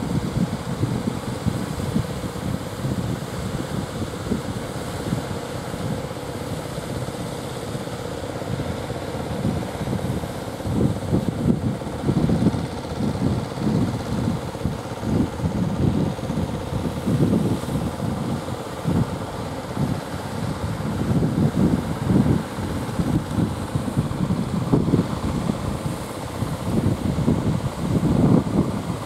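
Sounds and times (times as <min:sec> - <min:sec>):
wind buffeting microphone: 0:00.0 - 0:06.1, 0:08.4 - 0:29.0
outboard motor humming: 0:00.0 - 0:29.0.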